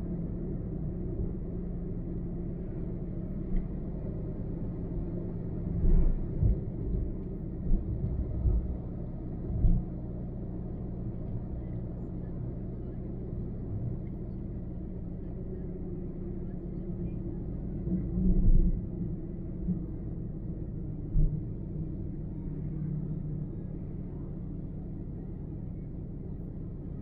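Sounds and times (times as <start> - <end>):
car driving on highway: 0.0 - 27.0.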